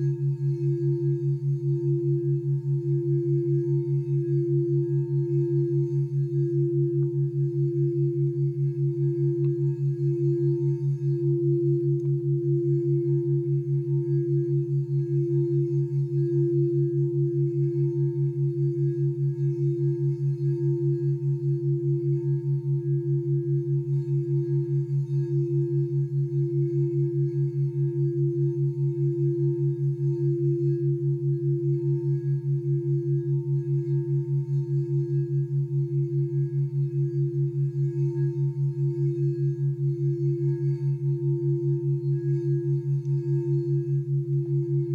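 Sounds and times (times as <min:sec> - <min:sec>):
singing bowl sustained tone: 0:00.0 - 0:44.9.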